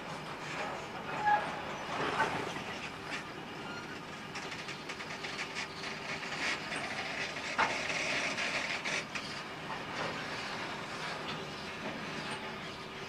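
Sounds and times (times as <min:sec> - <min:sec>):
train wheels rumbling on rail: 0:00.0 - 0:13.0
wheels clicking over rail joints: 0:00.4 - 0:12.8.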